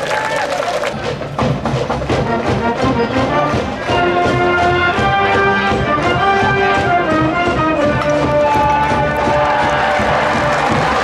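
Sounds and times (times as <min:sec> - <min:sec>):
steady drum beat: 0:00.9 - 0:11.0
brass band playing: 0:01.0 - 0:11.0.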